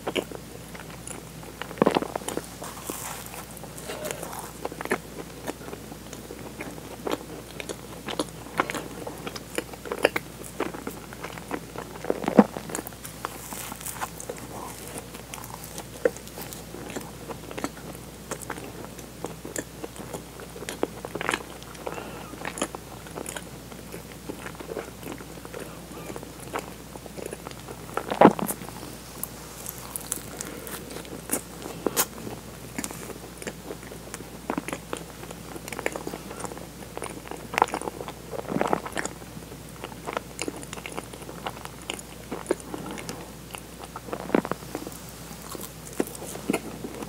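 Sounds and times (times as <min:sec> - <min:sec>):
chewing doughnut: 0:00.0 - 0:47.0.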